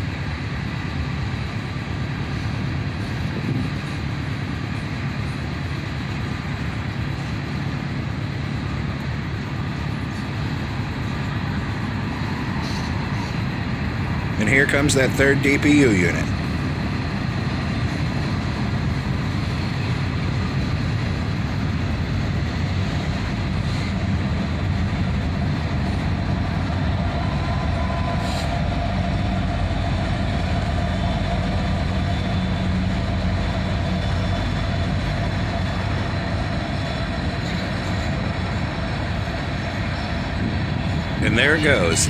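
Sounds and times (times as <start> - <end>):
train wheels clattering on rail: 0.0 - 15.0, 15.6 - 42.0
diesel locomotive engine: 0.0 - 42.0.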